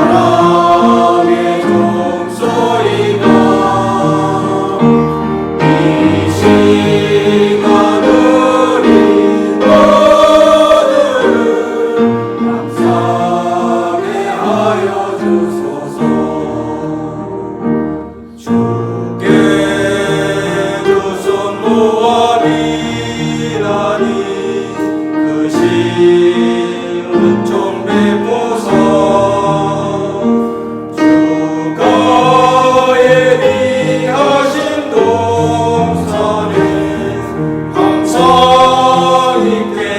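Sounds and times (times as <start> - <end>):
church choir singing a hymn: 0.0 - 39.9.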